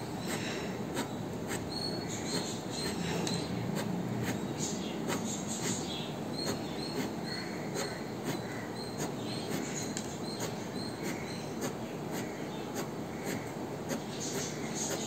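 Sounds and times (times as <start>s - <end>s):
pen scratching on paper: 0.2s - 15.0s.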